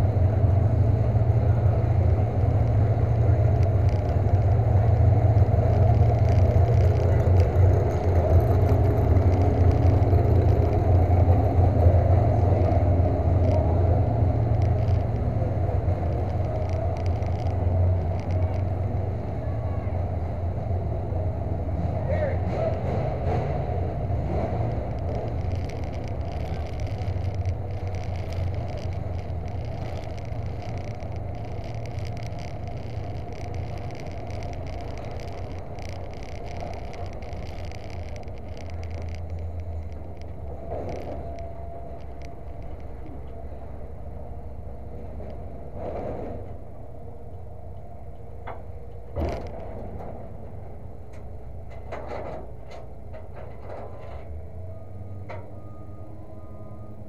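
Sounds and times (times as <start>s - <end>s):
vehicle engine idling: 0.0s - 55.8s.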